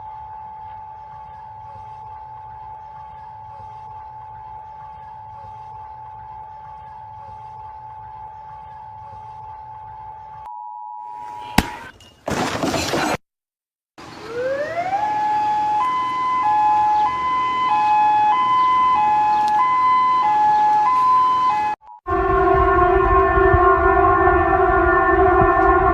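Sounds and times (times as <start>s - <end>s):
electronic alarm tone: 0.0s - 11.9s, 14.3s - 25.9s
two-pitch siren: 0.0s - 11.9s, 14.2s - 25.9s.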